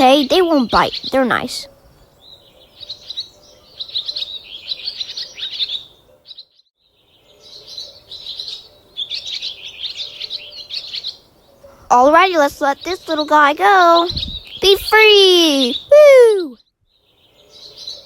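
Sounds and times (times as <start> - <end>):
birds chirping and singing: 0.0 - 18.0.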